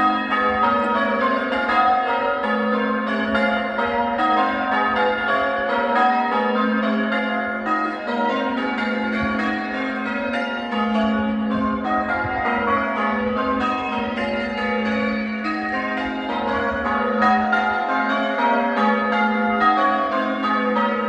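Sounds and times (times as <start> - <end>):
church bells change ringing: 0.0 - 21.0.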